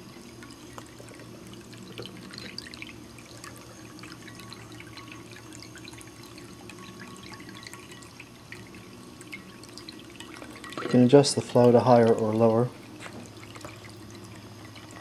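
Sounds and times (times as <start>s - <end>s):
constant low hum: 0.0s - 15.0s
water trickling into bowl: 0.0s - 15.0s.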